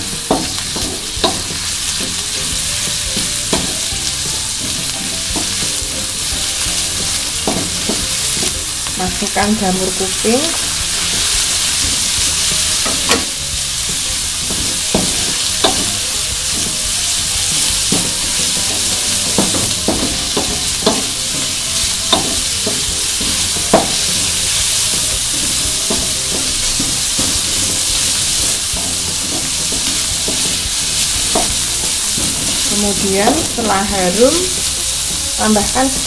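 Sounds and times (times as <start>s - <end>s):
oil sizzling in a wok: 0.0s - 36.0s
spatula scraping a wok: 0.0s - 36.0s.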